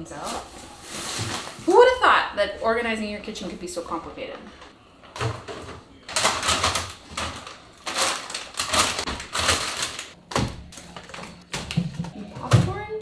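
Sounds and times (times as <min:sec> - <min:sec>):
boxes and bags rustling: 0:00.0 - 0:02.2, 0:04.0 - 0:13.0.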